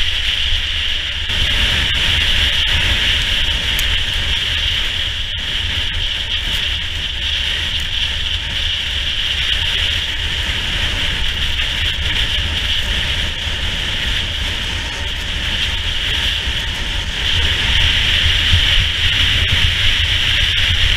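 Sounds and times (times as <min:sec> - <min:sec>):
skis scraping over snow: 0:00.0 - 0:20.9
wind buffeting microphone: 0:00.0 - 0:20.9.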